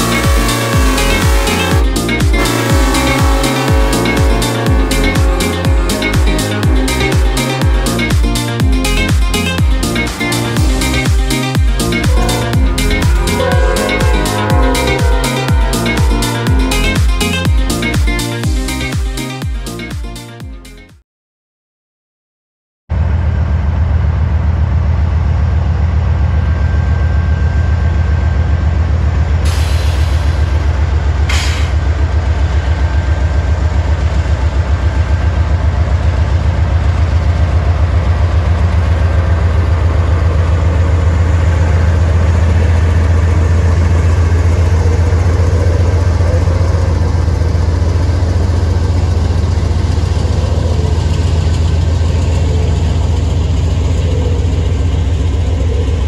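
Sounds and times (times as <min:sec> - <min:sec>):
freight train rumbling past: 0:00.0 - 0:19.9, 0:22.9 - 0:56.0.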